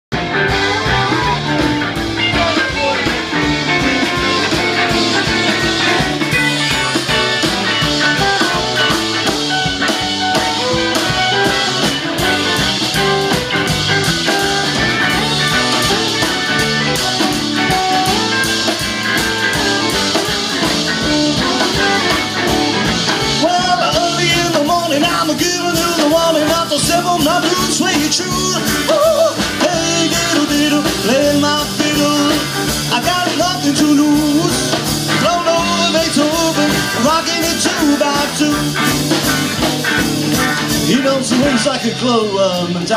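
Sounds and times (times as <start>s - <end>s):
live rock band playing: 0.1s - 42.9s.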